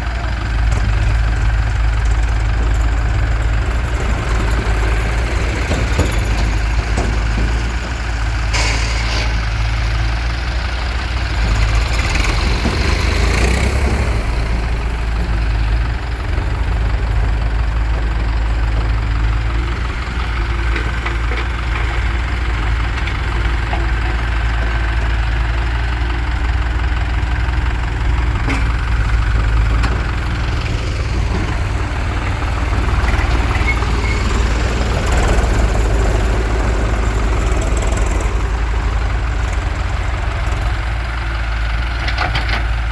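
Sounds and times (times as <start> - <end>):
diesel engines idling: 0.0 - 42.9.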